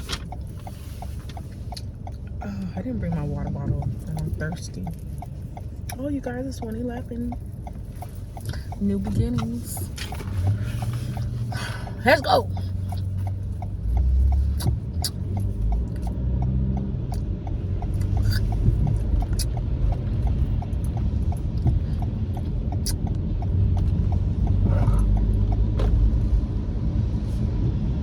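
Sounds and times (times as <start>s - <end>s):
car rumbling on road: 0.0s - 28.0s
turn signal ticking: 0.0s - 28.0s.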